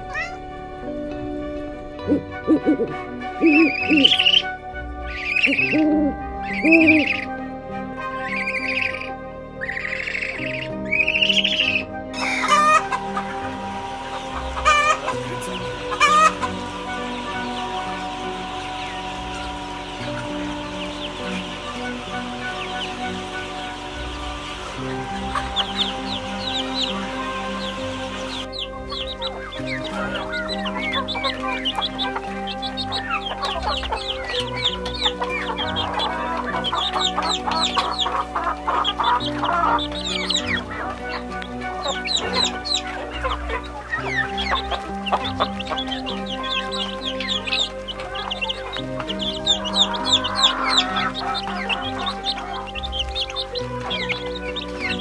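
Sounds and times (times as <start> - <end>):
background music: 0.0 - 55.0
harsh chicken calls: 8.1 - 55.0.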